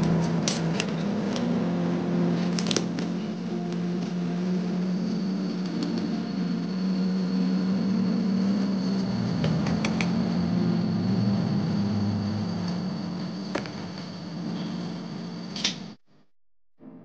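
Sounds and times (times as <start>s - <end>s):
faint high whine: 0.0s - 16.2s
low mechanical hum: 0.0s - 16.2s.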